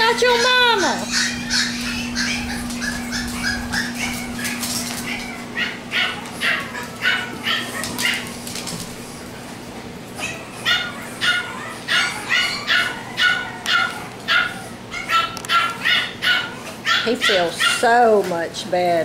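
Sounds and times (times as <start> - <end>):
puppy yipping and whimpering: 0.2 - 8.3, 10.2 - 17.9.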